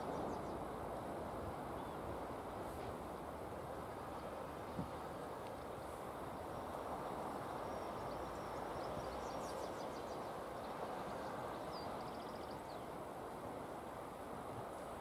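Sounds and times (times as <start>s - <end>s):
distant steam locomotive rumble and hiss: 0.0s - 15.0s.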